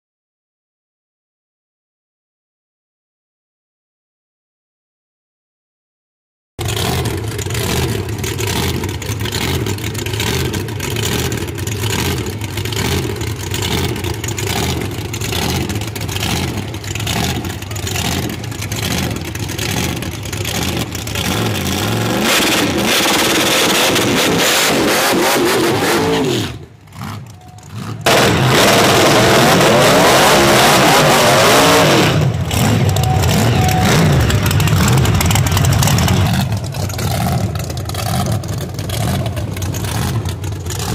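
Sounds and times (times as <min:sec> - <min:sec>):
race car engines idling and revving: 0:06.6 - 0:40.9.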